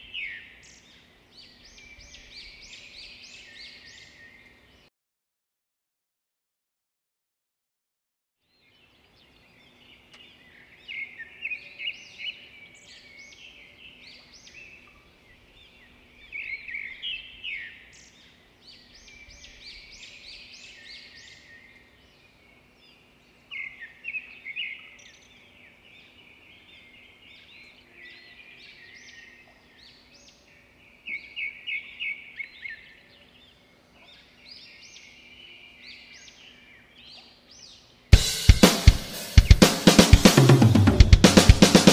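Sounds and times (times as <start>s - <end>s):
birds chirping: 0.0s - 4.9s, 8.5s - 41.9s.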